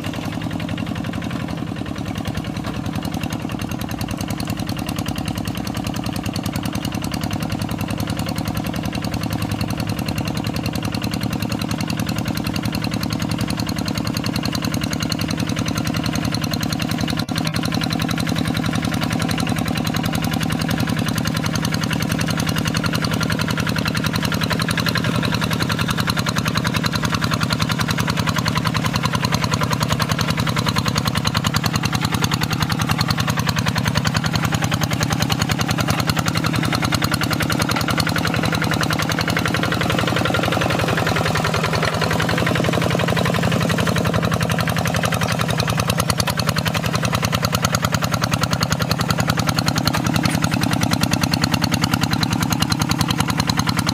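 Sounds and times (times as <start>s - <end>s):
diesel engine knocking: 0.0s - 53.9s.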